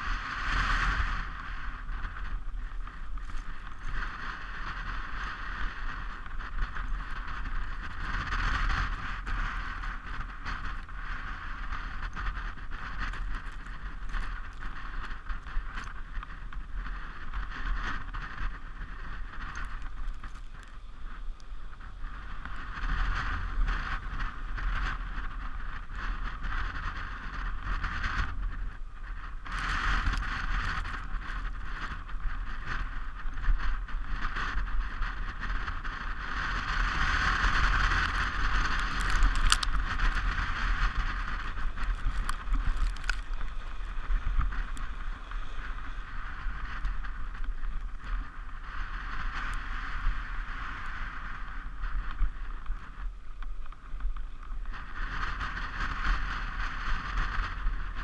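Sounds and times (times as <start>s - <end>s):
toboggan runners hissing on snow: 0.0s - 58.0s
wind on microphone: 0.0s - 58.0s.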